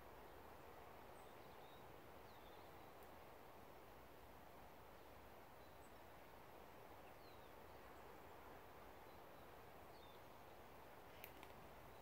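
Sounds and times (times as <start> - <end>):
faint outdoor background hiss: 0.0 - 12.0.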